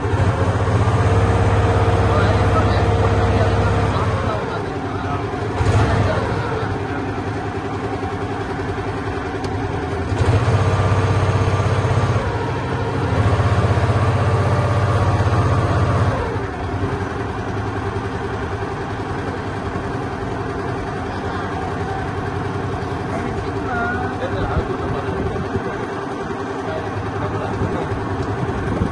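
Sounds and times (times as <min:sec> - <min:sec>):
boat engine running: 0:00.0 - 0:28.9.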